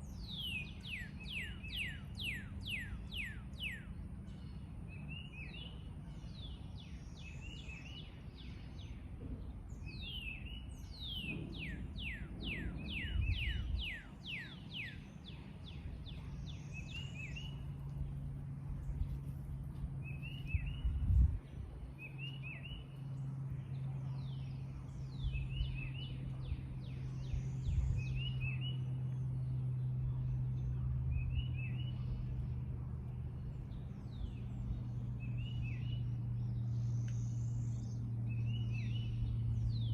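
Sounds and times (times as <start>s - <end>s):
songbirds singing and calling: 0.0s - 39.9s
steady low hum: 0.0s - 39.9s.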